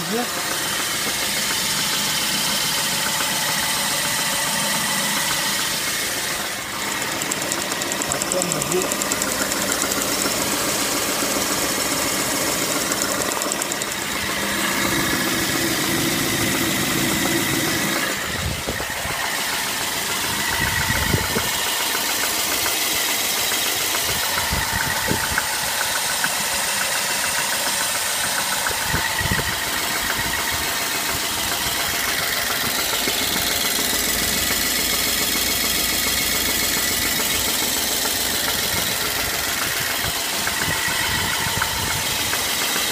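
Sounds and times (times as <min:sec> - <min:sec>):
car engine idling: 0:00.0 - 0:42.9
engine knocking: 0:00.0 - 0:42.9.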